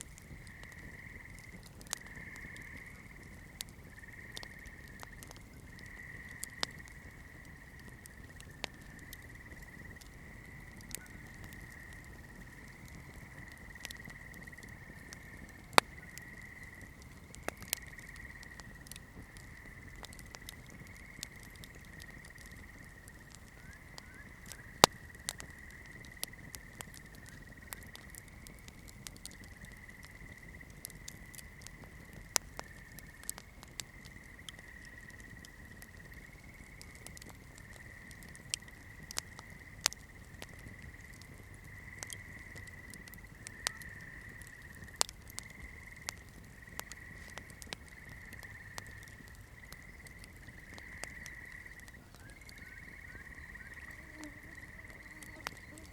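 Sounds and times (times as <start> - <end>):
campfire crackling: 0.0 - 55.9.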